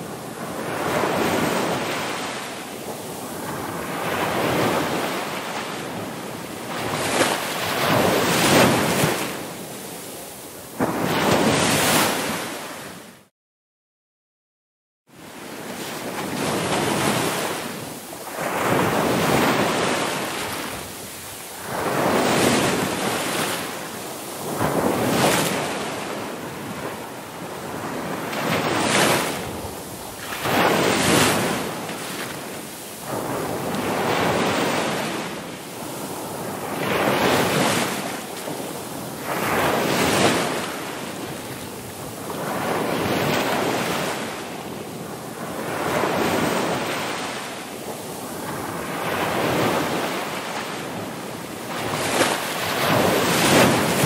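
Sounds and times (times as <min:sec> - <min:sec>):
ocean waves breaking: 0:00.0 - 0:13.2, 0:15.4 - 0:54.0.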